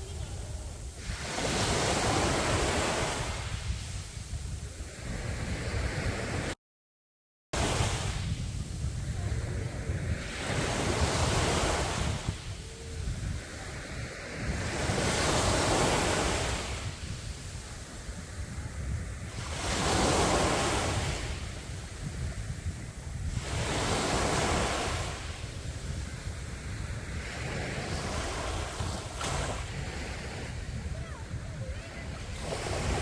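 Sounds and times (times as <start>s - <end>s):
sea waves breaking on a beach: 0.0s - 6.6s, 7.6s - 33.0s
wind rumbling on microphone: 0.0s - 6.6s, 7.6s - 33.0s.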